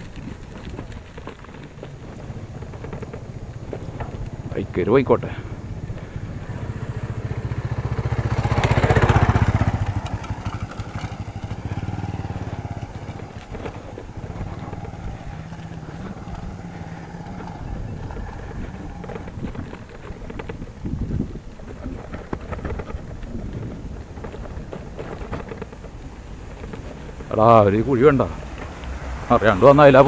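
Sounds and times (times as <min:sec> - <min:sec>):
motorcycle engine passing by: 0:00.0 - 0:30.0.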